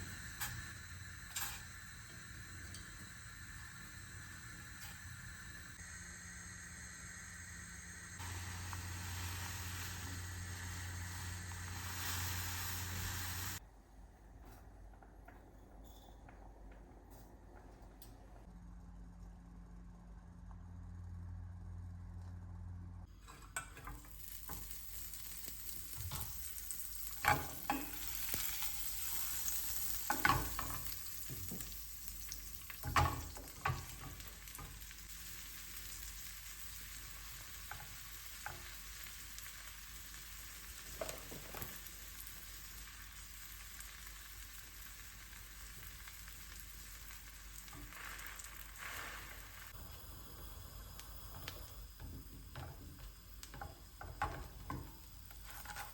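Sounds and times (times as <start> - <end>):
food sizzling in a pan: 0.0 - 13.6, 23.0 - 55.9.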